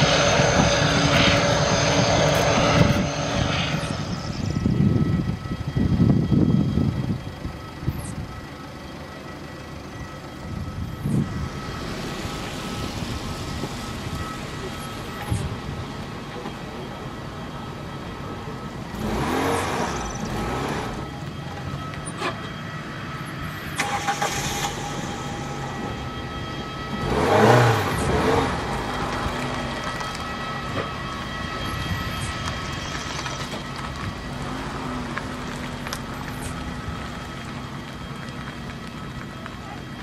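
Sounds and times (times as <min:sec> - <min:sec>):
thin steady whine: 0:00.0 - 0:40.0
vehicle engines droning: 0:00.0 - 0:40.0.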